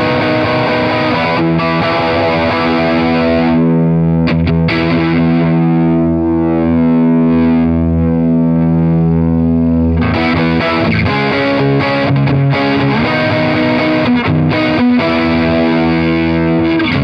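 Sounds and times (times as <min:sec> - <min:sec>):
distorted electric guitar chord: 0:00.0 - 0:17.0.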